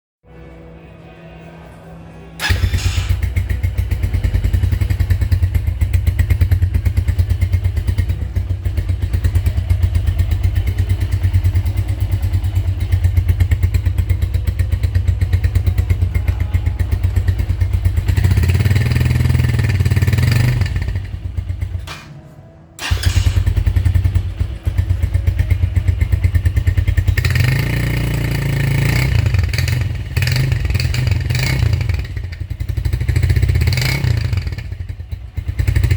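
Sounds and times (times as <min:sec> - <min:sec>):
motorcycle engine idling and revving: 0:02.4 - 0:22.2, 0:22.8 - 0:35.9.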